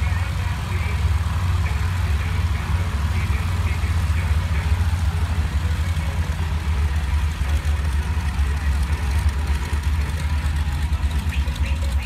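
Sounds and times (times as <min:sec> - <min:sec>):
plane engines rumbling: 0:00.0 - 0:12.0.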